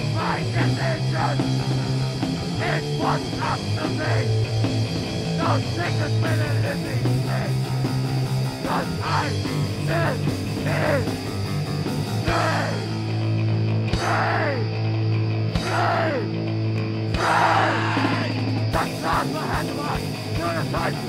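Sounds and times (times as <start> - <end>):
hardcore punk music: 0.0 - 21.0.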